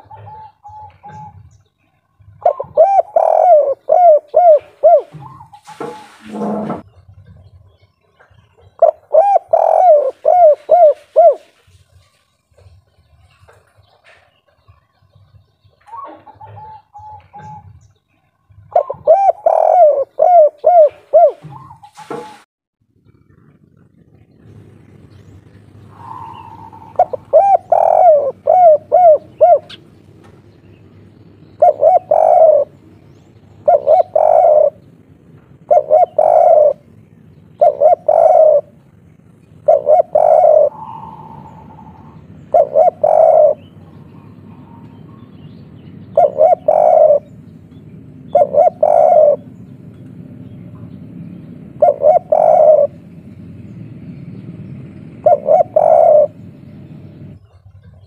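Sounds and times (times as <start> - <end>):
dove cooing: 0.0 - 6.9, 8.4 - 12.0, 13.5 - 22.4, 23.1 - 58.0.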